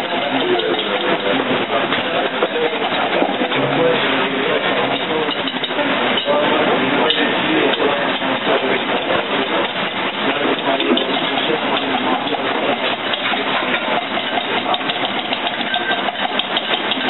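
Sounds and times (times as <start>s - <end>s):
whisk beating in metal bowl: 0.0s - 17.0s.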